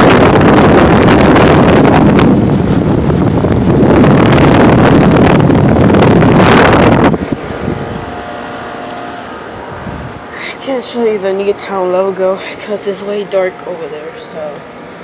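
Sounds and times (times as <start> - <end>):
fan air rushing over microphone: 0.0 - 15.0
heat pump running hum: 0.0 - 15.0.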